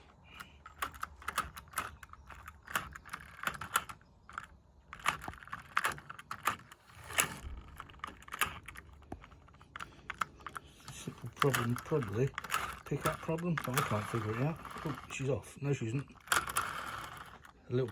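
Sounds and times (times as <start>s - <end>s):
small hard parts clicking and tapping: 0.0s - 17.9s.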